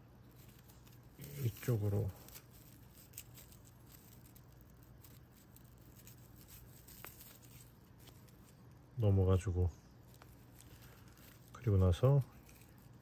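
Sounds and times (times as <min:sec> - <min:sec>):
faint yarn rustling: 0:00.0 - 0:13.0.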